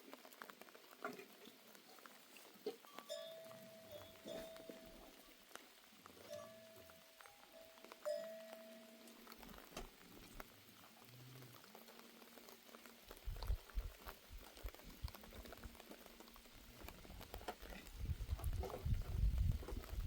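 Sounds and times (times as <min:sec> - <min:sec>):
water boiling: 0:00.0 - 0:20.0.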